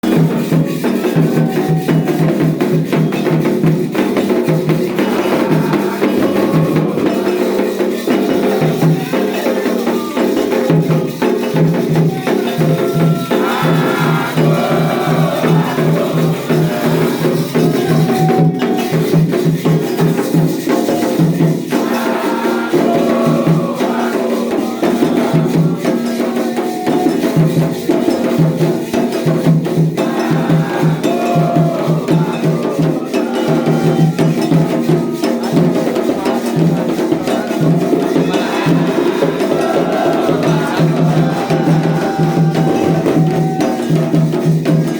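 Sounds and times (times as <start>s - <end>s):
hand drums: 0.0s - 44.9s
shakers: 0.0s - 44.9s
voices singing: 0.0s - 44.9s.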